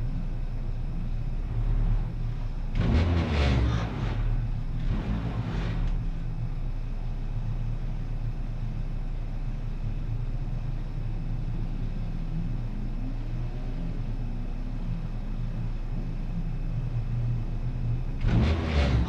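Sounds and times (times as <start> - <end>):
race car engine running: 0.0 - 19.0.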